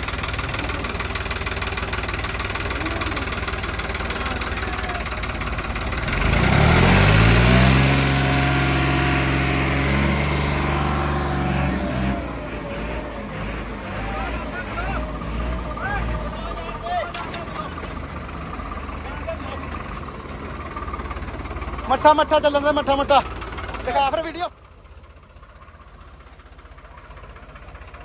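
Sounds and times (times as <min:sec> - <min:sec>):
tractor diesel engine idling and revving: 0:00.0 - 0:28.0.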